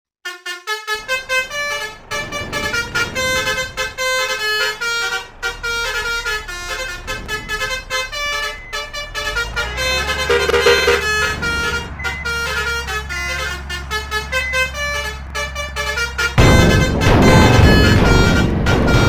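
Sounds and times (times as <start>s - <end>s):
musical air horn toots: 0.3s - 19.0s
low vehicle engine rumble: 0.9s - 19.0s.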